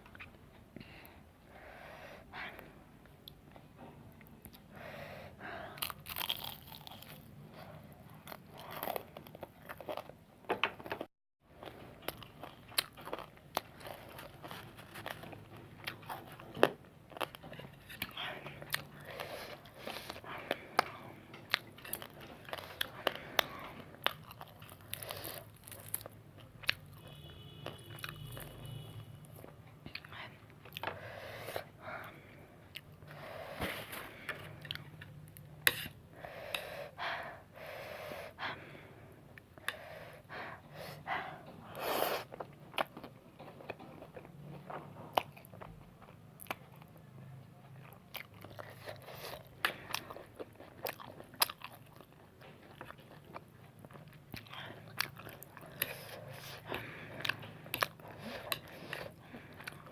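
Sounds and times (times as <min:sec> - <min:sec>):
person chewing noodles: 0:05.7 - 0:10.2, 0:11.6 - 0:59.9.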